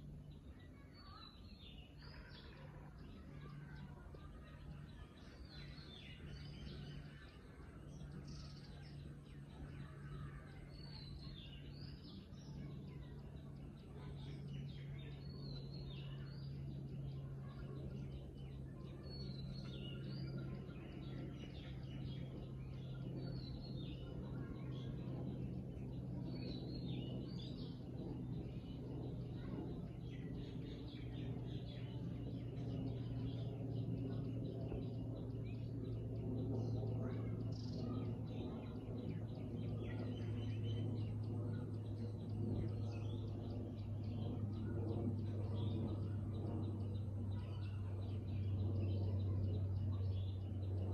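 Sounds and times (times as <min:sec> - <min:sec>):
small birds chirping: 0:00.0 - 0:50.9
steady low hum: 0:00.0 - 0:50.9.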